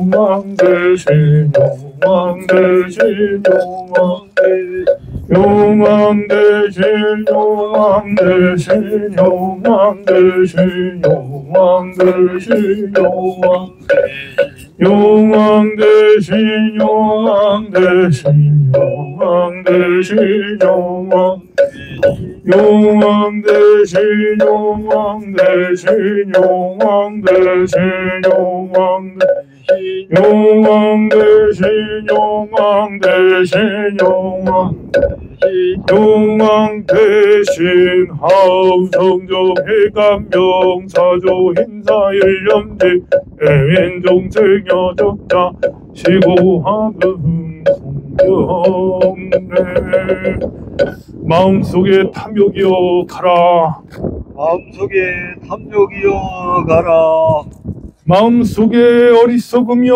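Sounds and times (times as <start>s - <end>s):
voices chanting: 0.0s - 53.5s.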